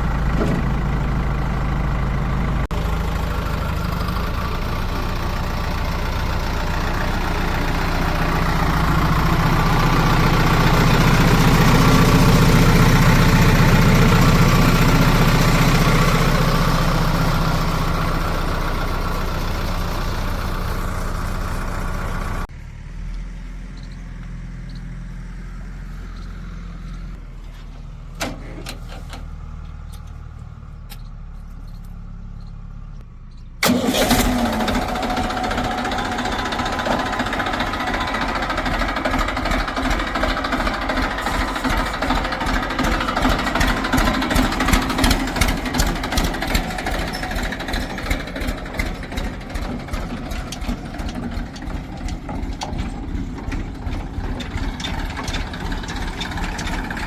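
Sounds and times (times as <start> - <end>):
loud diesel engine knocking: 0.0 - 22.5, 33.8 - 57.0
low diesel engine running: 0.0 - 57.0.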